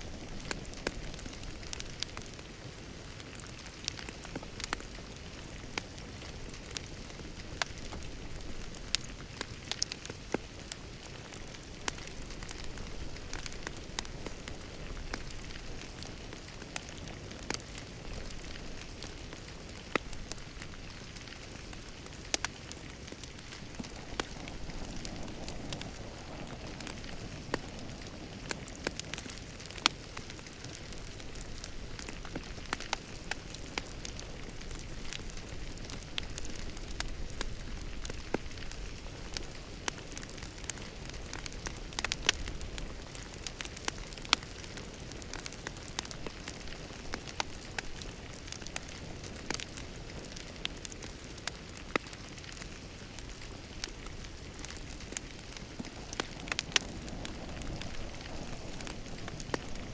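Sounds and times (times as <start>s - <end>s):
fire crackling and popping: 0.0s - 59.9s
fire rumbling in a fireplace: 0.0s - 59.9s.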